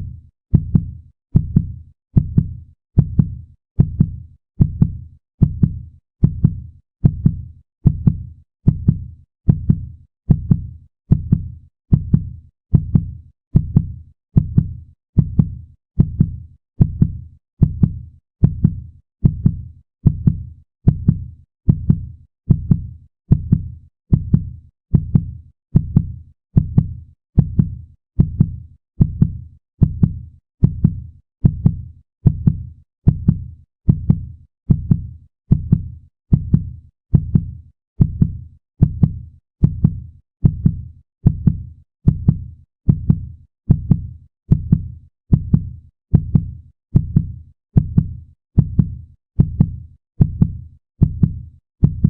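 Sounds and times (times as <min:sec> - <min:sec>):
heartbeat double thump: 0:00.5 - 0:52.0.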